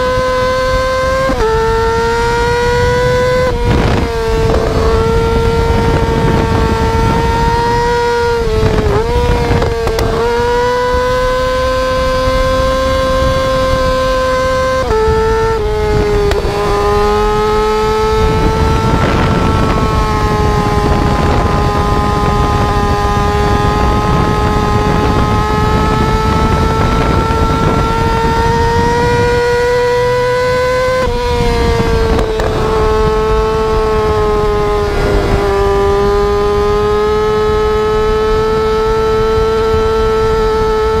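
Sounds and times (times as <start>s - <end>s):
motorcycle engine at high revs: 0.0s - 41.0s
wind and road rush: 0.0s - 41.0s.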